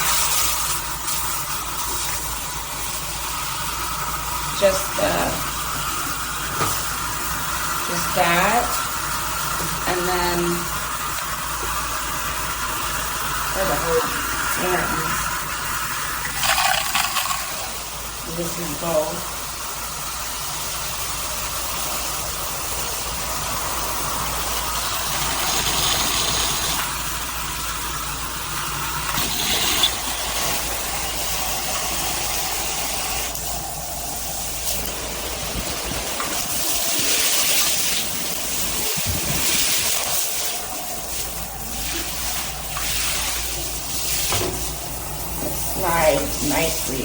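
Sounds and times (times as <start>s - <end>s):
shower head spraying water: 0.0s - 47.0s.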